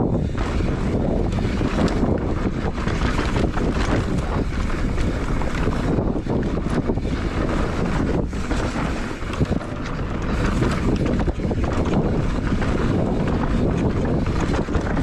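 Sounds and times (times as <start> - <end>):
bike clattering over bumps: 0.0 - 15.0
tyres rumbling over dirt: 0.0 - 15.0
wind rushing over microphone: 0.0 - 15.0.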